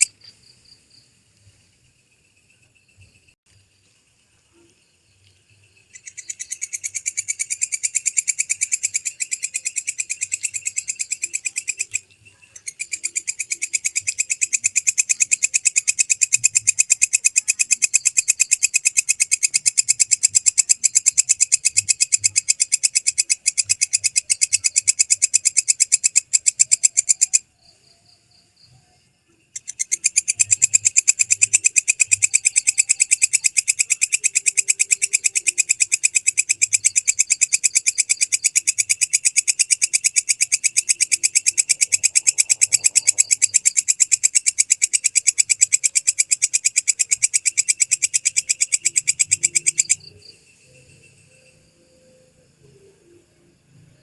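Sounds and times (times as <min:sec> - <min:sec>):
katydid stridulating: 0:00.0 - 0:54.0.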